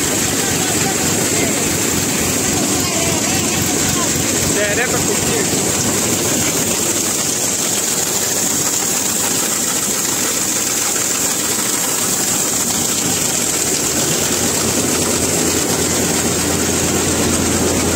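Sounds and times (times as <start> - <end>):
combine harvester running: 0.0 - 17.9
constant high whine: 0.0 - 17.9.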